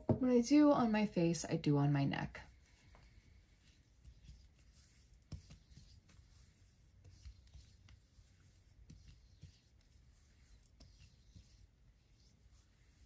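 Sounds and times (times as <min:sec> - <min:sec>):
skin rubbing: 0:02.5 - 0:13.0.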